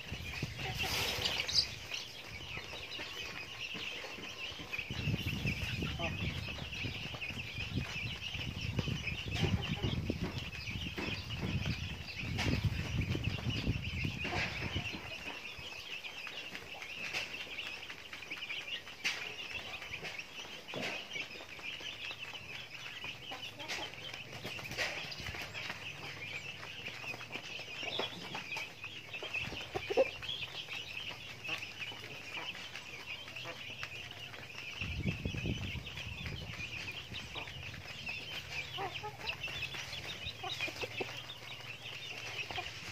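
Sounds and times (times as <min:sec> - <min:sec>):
chickens clucking softly: 0:00.0 - 0:42.9.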